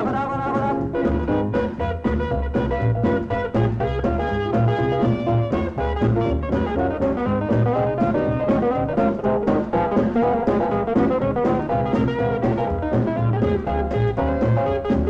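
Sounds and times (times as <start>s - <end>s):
driving drum kit: 0.0s - 15.0s.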